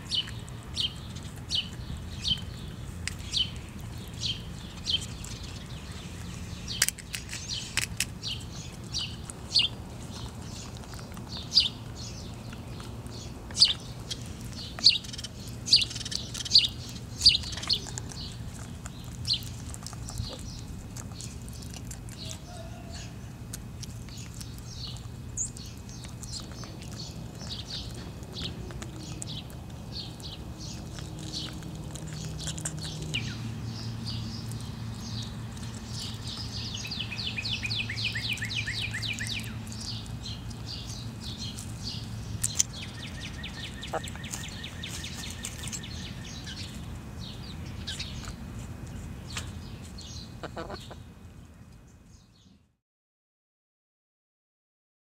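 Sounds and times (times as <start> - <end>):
low steady hum: 0.0 - 52.8.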